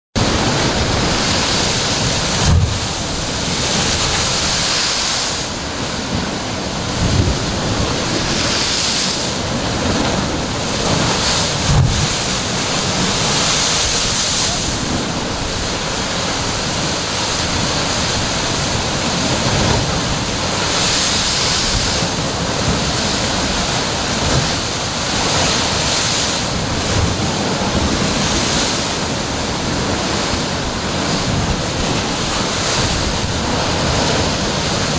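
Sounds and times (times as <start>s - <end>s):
heavy surf crashing on rocks: 0.2s - 34.9s
waves thumping against rock: 0.2s - 34.9s
wind buffeting microphone: 0.2s - 34.9s.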